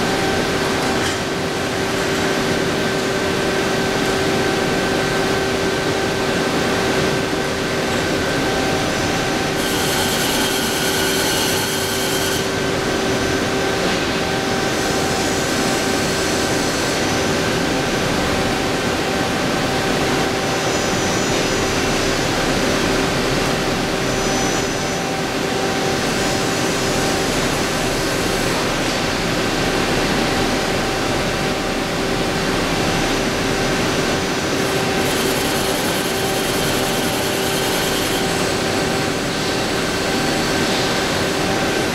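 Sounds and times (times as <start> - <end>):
lathe machining noise: 5.5 - 28.8, 29.8 - 41.9.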